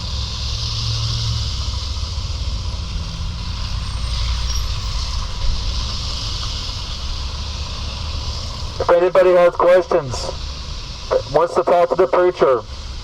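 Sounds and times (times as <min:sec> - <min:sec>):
low engine rumble: 0:00.0 - 0:13.0
tyre hiss on wet road: 0:00.0 - 0:13.0.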